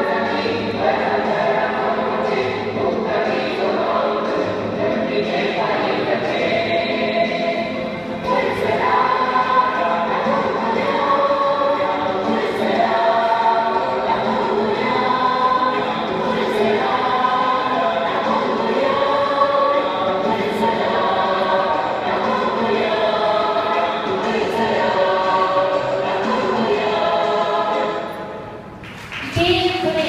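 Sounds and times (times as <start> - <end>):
choir singing held notes: 0.0 - 28.8.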